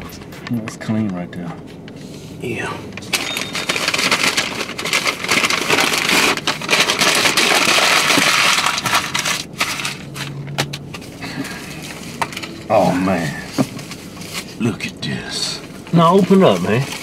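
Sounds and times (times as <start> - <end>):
paper bag crinkling: 3.0 - 17.0.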